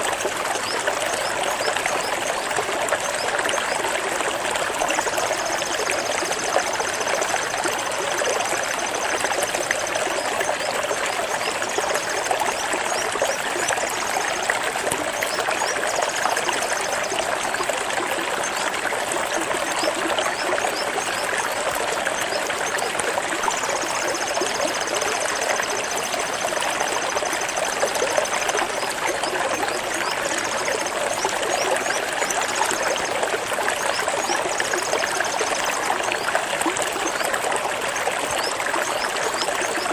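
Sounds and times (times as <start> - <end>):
flowing water splashing: 0.0 - 39.9.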